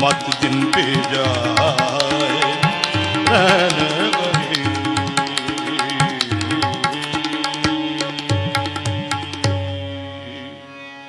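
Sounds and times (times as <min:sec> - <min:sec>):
tabla playing: 0:00.0 - 0:10.6
harmonium chord: 0:00.0 - 0:11.0.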